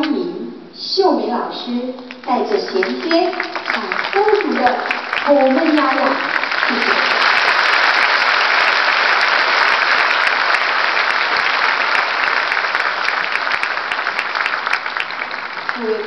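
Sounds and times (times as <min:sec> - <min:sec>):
audience applauding: 0:02.0 - 0:16.0.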